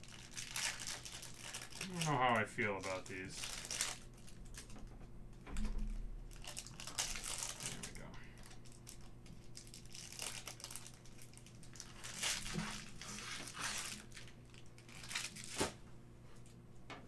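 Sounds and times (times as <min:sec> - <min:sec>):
plastic wrapping crinkling: 0:00.0 - 0:04.9, 0:05.9 - 0:15.8.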